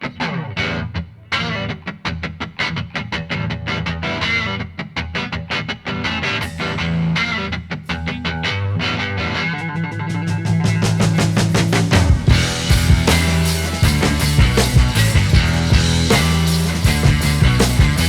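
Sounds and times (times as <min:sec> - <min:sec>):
distorted electric guitar picking: 0:00.0 - 0:18.0.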